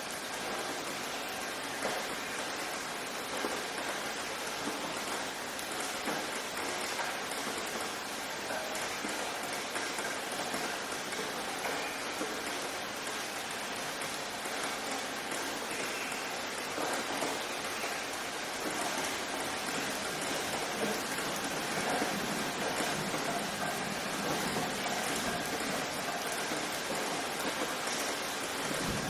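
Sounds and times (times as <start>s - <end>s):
rain pattering on a surface: 0.0s - 29.0s.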